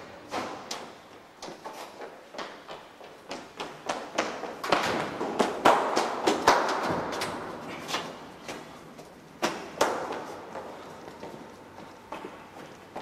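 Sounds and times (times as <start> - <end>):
footsteps on concrete: 0.7 - 13.0.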